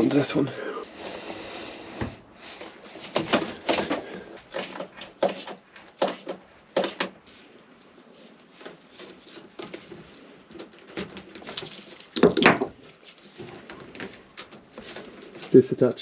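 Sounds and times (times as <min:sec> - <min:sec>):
rubber hose knocks and rubbing: 0:01.0 - 0:07.5, 0:08.5 - 0:15.6.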